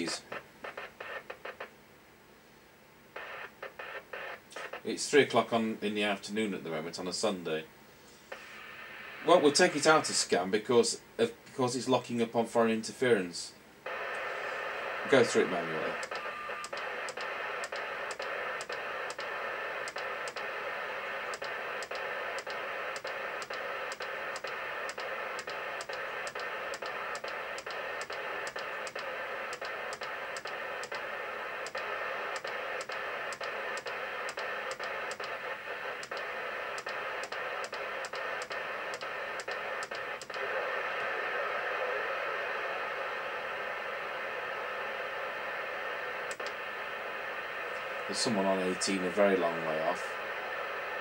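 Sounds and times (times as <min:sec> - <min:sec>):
radio receiver hiss: 0:00.0 - 0:01.8, 0:03.1 - 0:51.0.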